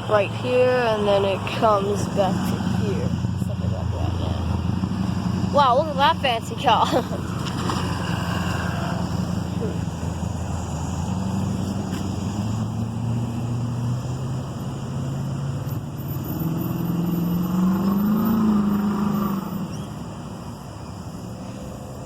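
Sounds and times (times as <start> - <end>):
cars passing by: 0.0 - 22.0.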